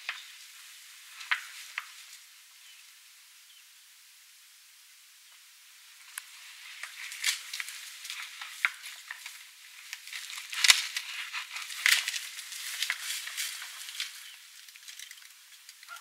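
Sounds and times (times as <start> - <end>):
branches crackling and snapping: 0.0 - 3.0, 5.3 - 16.0.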